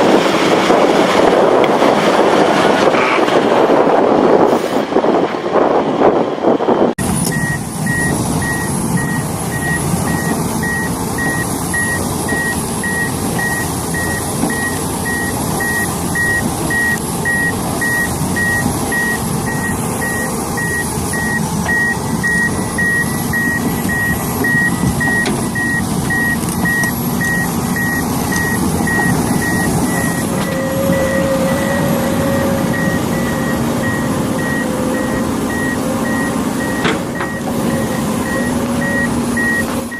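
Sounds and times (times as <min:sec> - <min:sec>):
diesel engine running: 0:00.0 - 0:39.9
reversing alarm beeping: 0:06.7 - 0:39.9.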